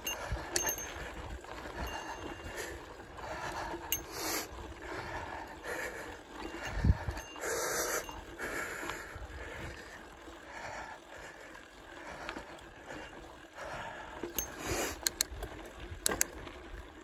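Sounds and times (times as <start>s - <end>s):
bike tyre and trail rumble: 0.0s - 17.0s.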